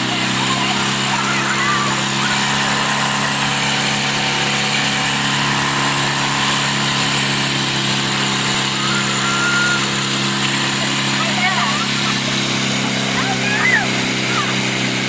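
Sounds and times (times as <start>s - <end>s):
small boat engine running: 0.0s - 15.0s.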